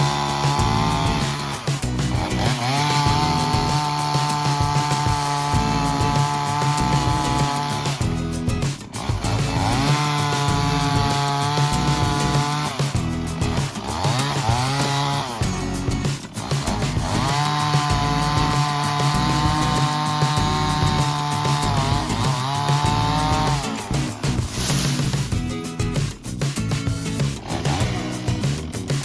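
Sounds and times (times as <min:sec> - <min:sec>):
background music: 0:00.0 - 0:29.0
chainsaw revving: 0:00.0 - 0:29.0.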